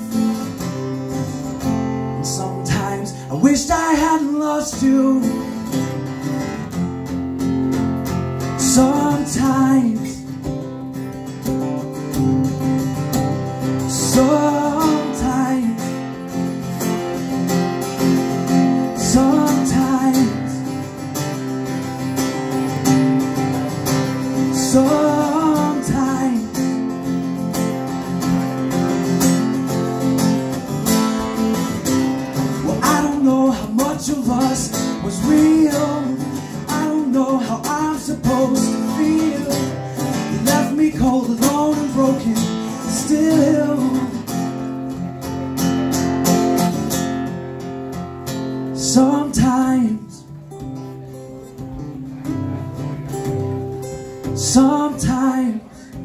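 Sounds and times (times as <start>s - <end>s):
acoustic guitars strumming chords: 0.0s - 56.0s.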